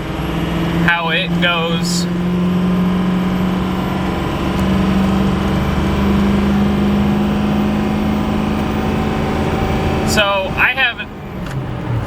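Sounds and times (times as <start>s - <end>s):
diesel engine at full throttle: 0.0s - 12.0s.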